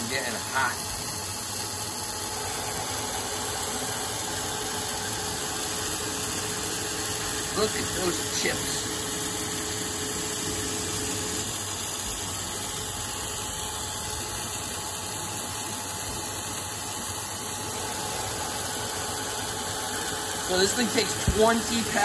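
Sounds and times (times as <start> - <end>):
coolant mist hissing: 0.0 - 22.0
lathe spindle and cutting noise: 0.0 - 22.0.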